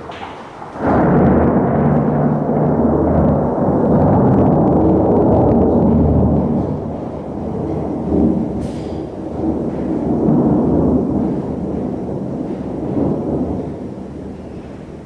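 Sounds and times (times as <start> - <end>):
thunder crack and rumbling: 0.0 - 15.0.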